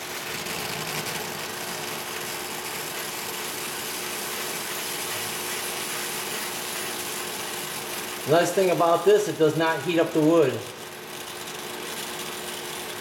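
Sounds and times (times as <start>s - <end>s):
gas torch hissing: 0.0s - 11.9s.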